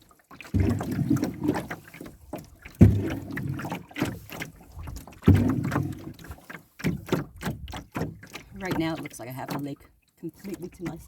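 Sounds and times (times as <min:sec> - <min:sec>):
paddle strokes in water: 0:00.0 - 0:11.0
water splashes and drips: 0:00.0 - 0:11.0.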